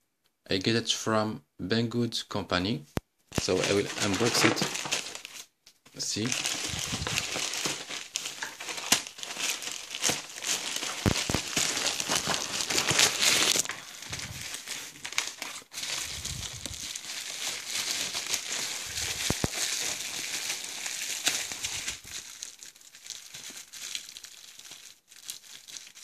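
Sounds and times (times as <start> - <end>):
plastic packaging crinkling: 3.3 - 26.0.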